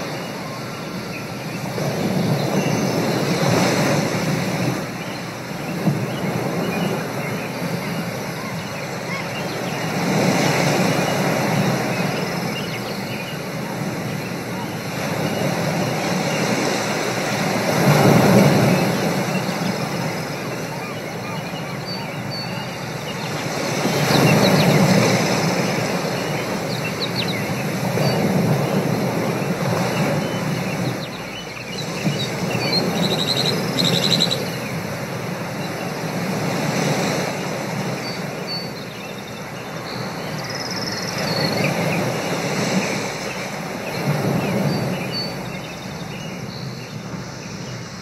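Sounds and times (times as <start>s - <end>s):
steady wash of noise: 0.0s - 48.0s.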